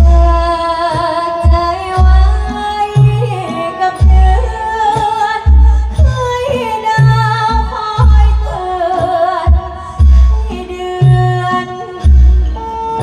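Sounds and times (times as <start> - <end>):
girl singing: 0.0 - 12.1
band music: 0.0 - 13.0
heavy bass drum beat: 0.0 - 13.0.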